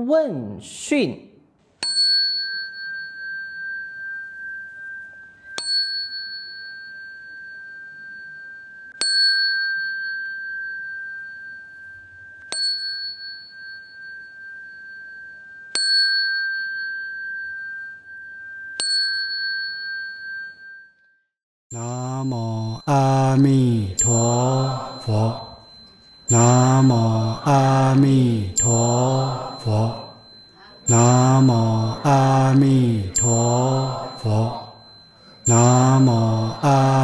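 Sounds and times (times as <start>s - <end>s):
small bell struck and ringing: 1.8s - 21.9s, 24.0s - 27.7s, 28.5s - 32.5s, 33.1s - 37.0s.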